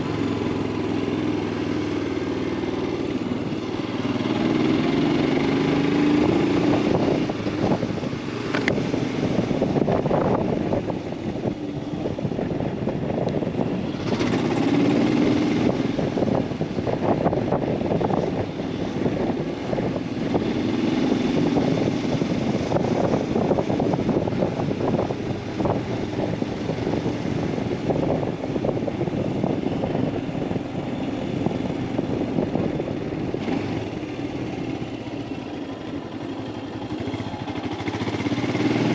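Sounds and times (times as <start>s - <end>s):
motorcycle engine revving: 0.0s - 38.9s
road noise: 0.0s - 38.9s.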